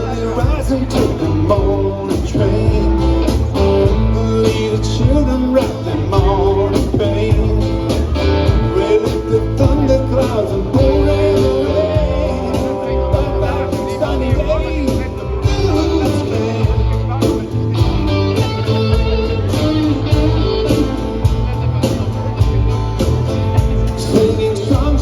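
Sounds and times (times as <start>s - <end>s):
bass guitar: 0.0s - 25.0s
strummed guitars: 0.0s - 25.0s.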